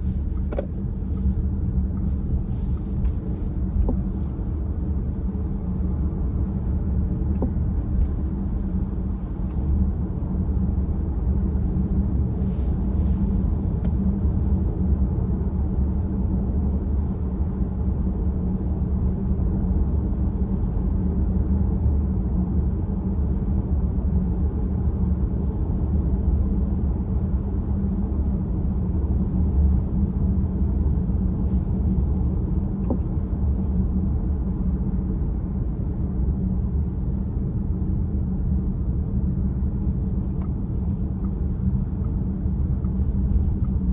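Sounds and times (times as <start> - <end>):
car rumbling on the move: 0.0 - 43.9.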